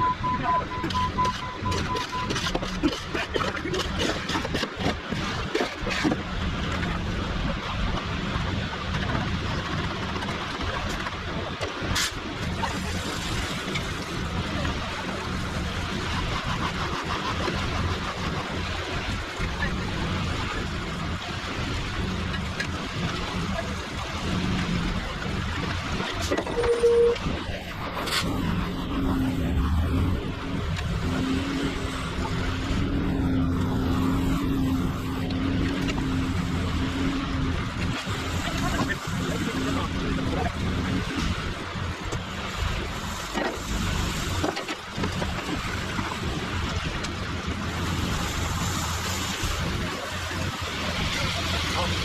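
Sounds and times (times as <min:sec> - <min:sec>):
diesel machinery engine hum: 0:00.0 - 0:52.0.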